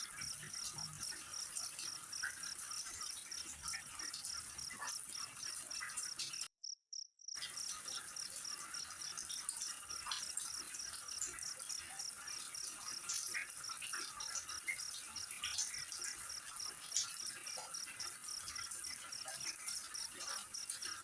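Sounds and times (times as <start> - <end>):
faint flowing water: 0.0 - 6.5, 7.4 - 21.0
insect chirping rhythmically: 0.0 - 21.0.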